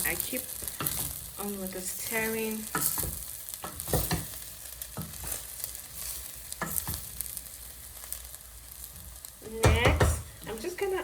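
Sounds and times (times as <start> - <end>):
rice sizzling: 0.0 - 11.0.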